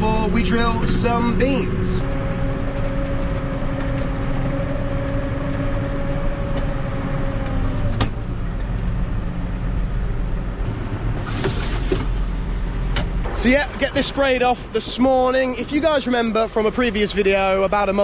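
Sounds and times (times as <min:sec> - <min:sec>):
steady whine: 0:00.0 - 0:18.0
tractor engine running: 0:00.0 - 0:18.0.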